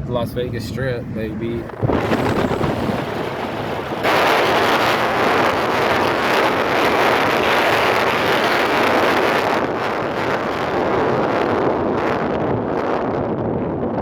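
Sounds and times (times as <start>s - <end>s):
wind and road noise in car: 0.0s - 14.0s.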